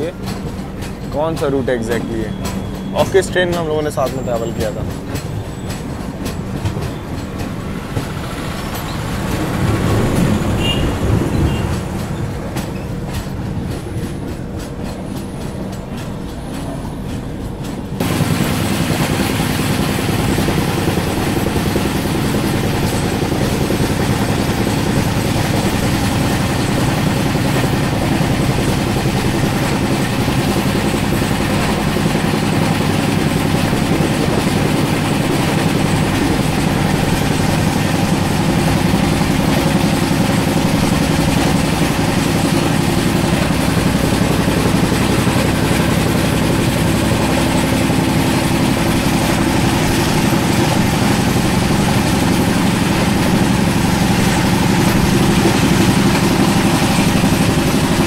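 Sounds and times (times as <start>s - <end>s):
train rumble: 0.0s - 58.0s
wheel clatter over rail joints: 0.0s - 58.0s.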